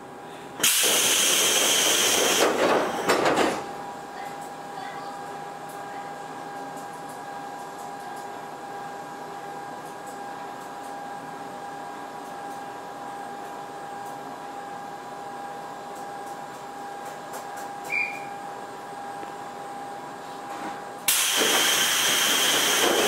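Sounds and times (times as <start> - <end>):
electric train whine and hum: 0.0 - 23.0.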